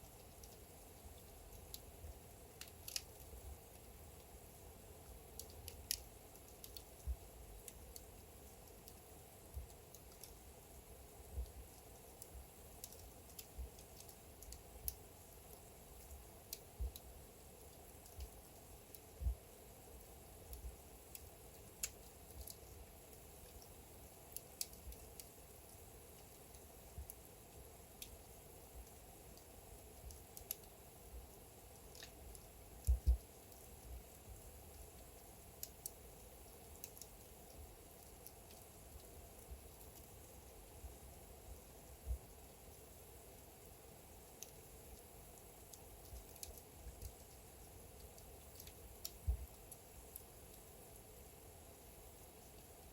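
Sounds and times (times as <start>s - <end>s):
faint steady hiss: 0.0s - 52.9s
wood fire crackling: 0.0s - 52.9s.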